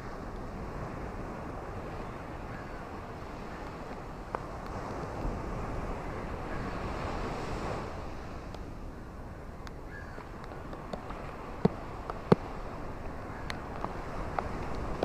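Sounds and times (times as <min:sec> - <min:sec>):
low wind rumble: 0:00.0 - 0:15.0
ocean waves on shore: 0:00.0 - 0:15.0.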